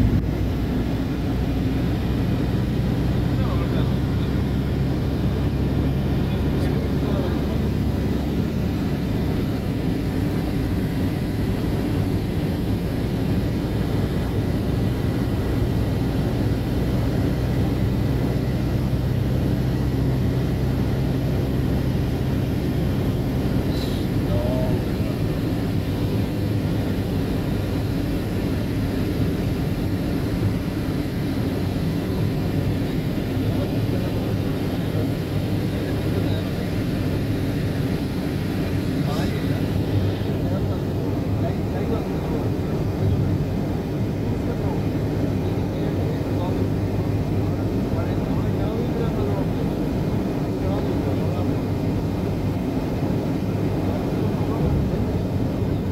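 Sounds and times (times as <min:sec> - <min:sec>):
vehicle engine hum: 0:00.0 - 0:55.9.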